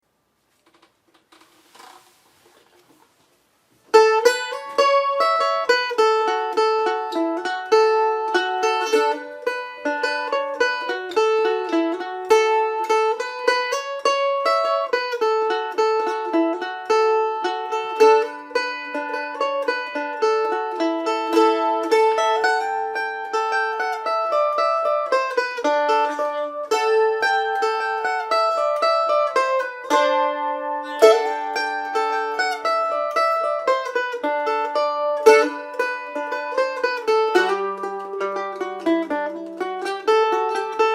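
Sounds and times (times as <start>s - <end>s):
mandolin melody: 3.8s - 40.9s.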